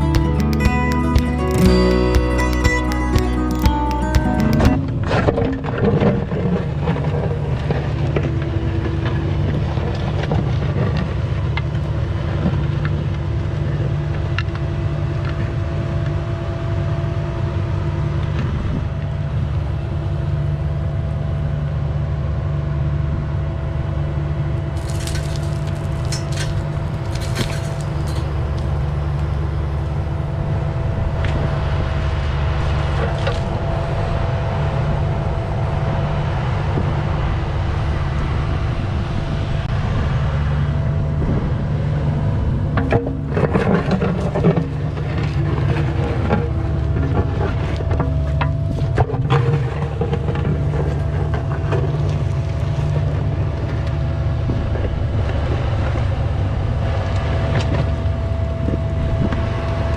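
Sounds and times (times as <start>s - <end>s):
mini excavator engine running: 0.0s - 59.9s.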